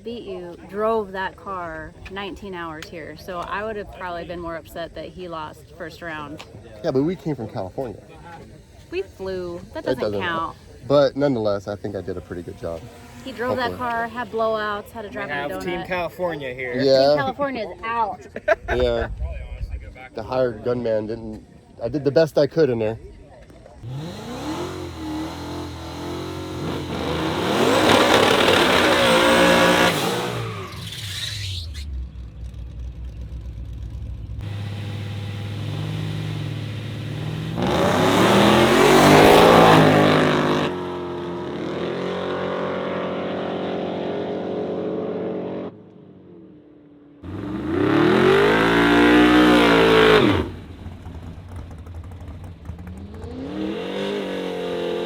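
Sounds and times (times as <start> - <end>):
car engine revving: 0.0 - 17.6, 23.8 - 55.0.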